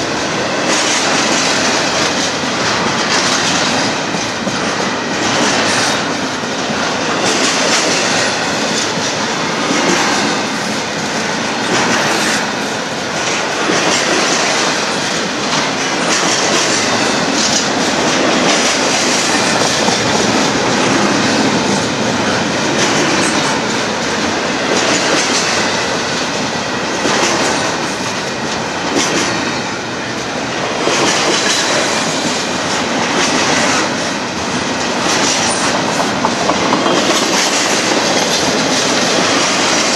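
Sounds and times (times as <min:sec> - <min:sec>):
train wheels clattering over rail joints: 0:00.0 - 0:29.9, 0:30.6 - 0:39.9.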